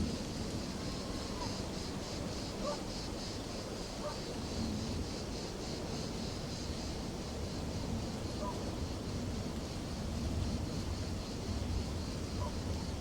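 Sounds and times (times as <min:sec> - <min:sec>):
pulsing insect chorus: 0:00.0 - 0:13.0.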